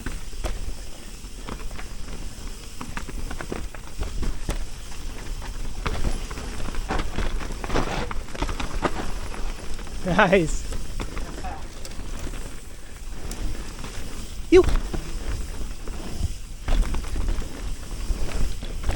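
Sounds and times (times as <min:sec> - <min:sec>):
bike clicking and rattling: 0:00.0 - 0:18.9
tyres crunching over dirt: 0:00.0 - 0:18.9.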